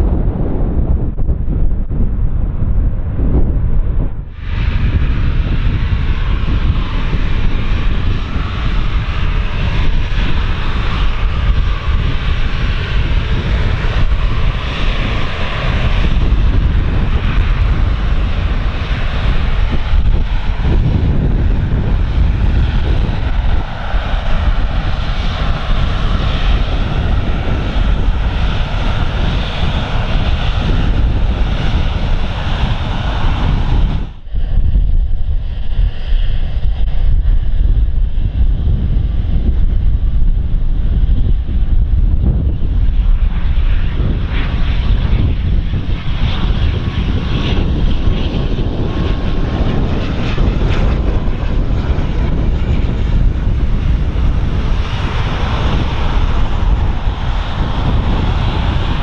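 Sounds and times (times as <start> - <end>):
airliner engines running: 0.0 - 59.0
wind buffeting microphone: 0.0 - 59.0.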